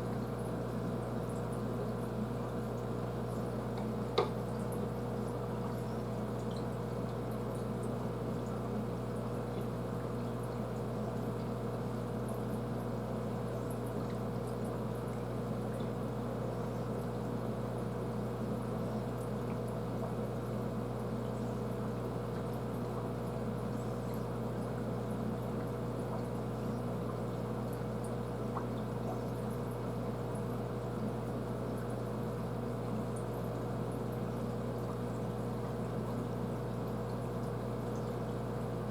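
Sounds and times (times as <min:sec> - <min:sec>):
water trickling in aquarium filter: 0:00.0 - 0:38.9.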